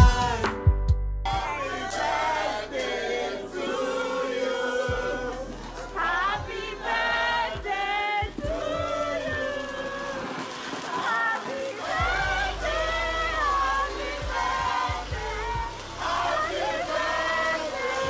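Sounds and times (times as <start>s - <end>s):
choir singing: 0.0s - 0.6s, 1.3s - 18.0s.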